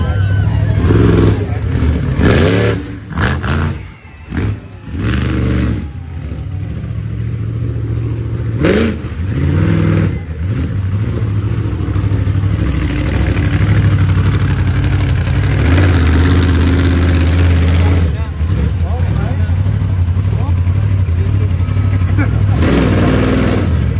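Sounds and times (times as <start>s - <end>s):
truck engine revving: 0.0s - 23.9s.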